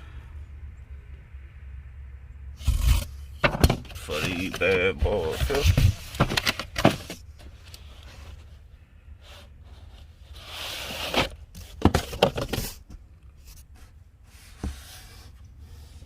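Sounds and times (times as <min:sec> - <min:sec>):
rustling cardboard and plastic: 0:02.6 - 0:16.0.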